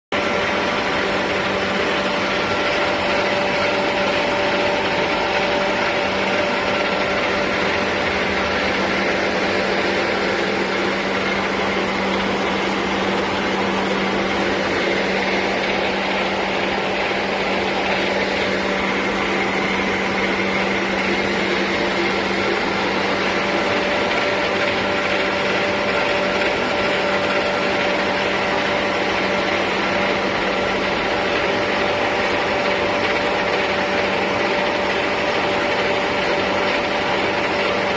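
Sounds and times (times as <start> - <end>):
machine tool humming: 0.2 - 37.9.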